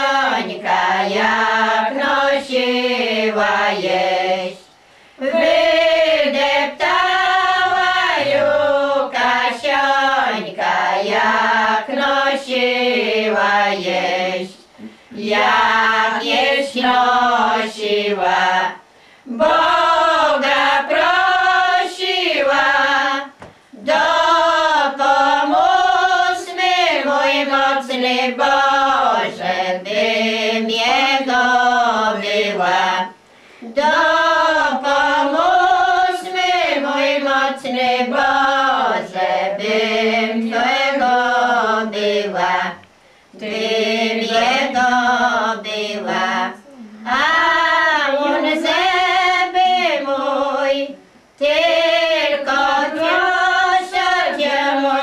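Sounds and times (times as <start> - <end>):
women singing a cappella: 0.0 - 55.0.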